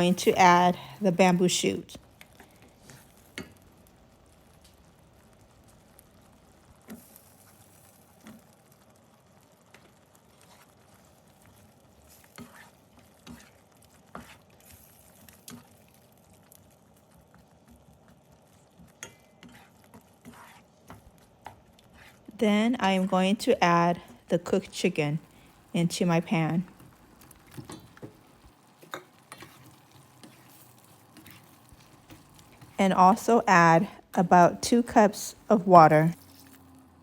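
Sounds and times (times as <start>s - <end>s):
curry sizzling: 0.0s - 37.0s.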